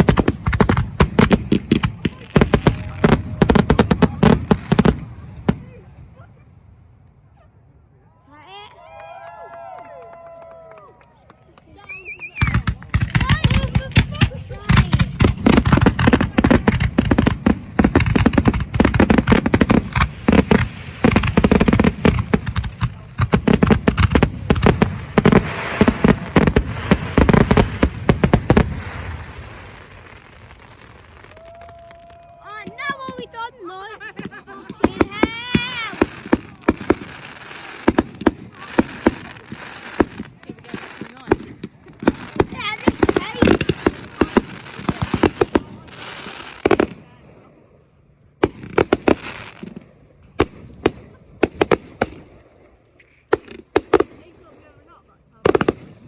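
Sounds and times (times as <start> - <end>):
fireworks bangs: 0.0 - 6.3, 11.8 - 47.4, 48.4 - 56.0
fireworks rumble: 0.0 - 7.4, 9.3 - 56.0.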